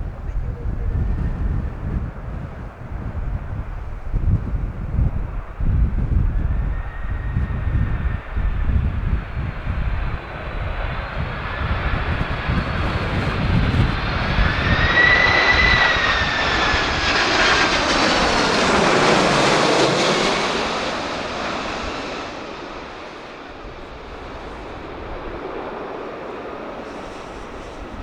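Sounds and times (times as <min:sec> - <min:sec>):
jet engines roaring: 0:00.0 - 0:28.0
wind buffeting microphone: 0:00.0 - 0:28.0.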